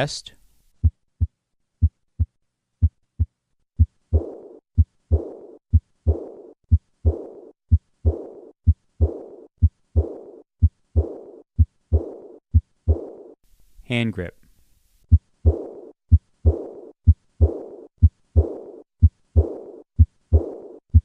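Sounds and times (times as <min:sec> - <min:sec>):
heart murmur: 0:00.8 - 0:13.4, 0:15.1 - 0:21.0
heartbeat lub-dub: 0:00.8 - 0:13.4, 0:15.1 - 0:21.0.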